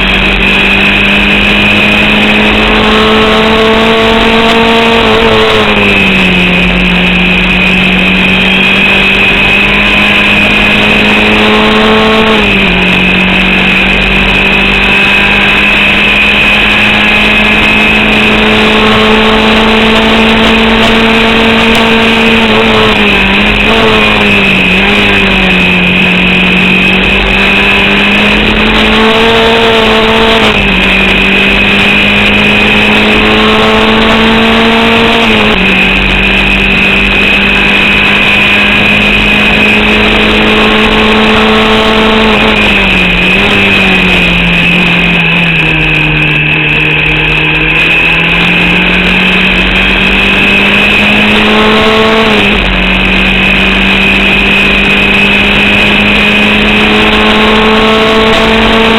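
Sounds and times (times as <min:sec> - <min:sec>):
race car engine at full throttle: 0:00.0 - 0:58.9.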